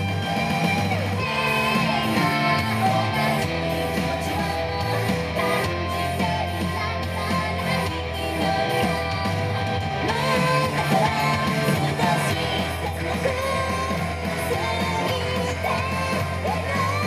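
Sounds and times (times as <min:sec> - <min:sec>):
upbeat pop song with vocals: 0:00.0 - 0:17.0.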